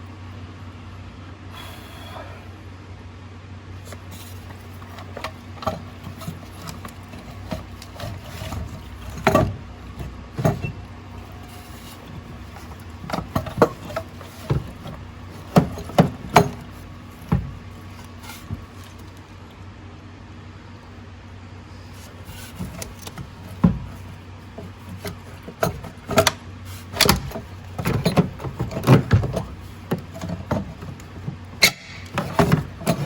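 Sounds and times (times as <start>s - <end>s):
steady low hum: 0.0s - 33.0s
metal parts knocking and clunking: 3.8s - 19.5s, 21.9s - 33.0s.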